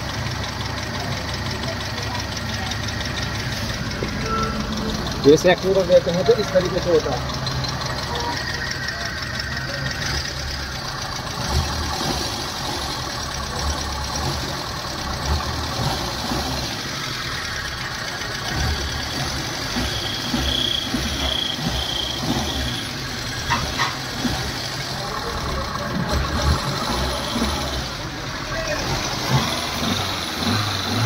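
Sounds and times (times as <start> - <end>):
engine shaking on mounts: 0.0 - 30.4
car engine running: 0.0 - 31.0.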